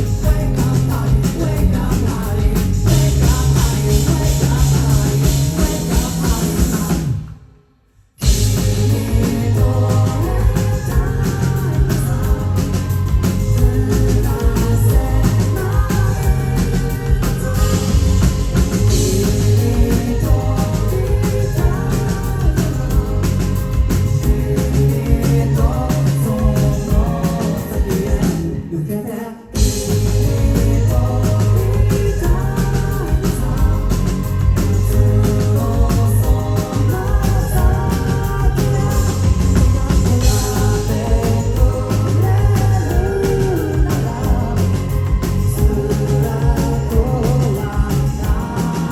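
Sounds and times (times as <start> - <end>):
rock band playing live: 0.0 - 7.3, 8.2 - 28.6, 29.6 - 48.9.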